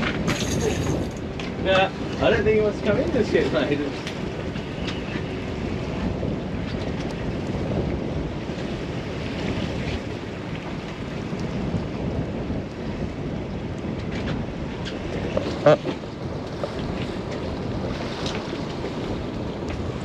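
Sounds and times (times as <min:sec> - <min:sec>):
water washing around boat: 0:00.0 - 0:20.0
wind buffeting microphone: 0:00.0 - 0:20.0.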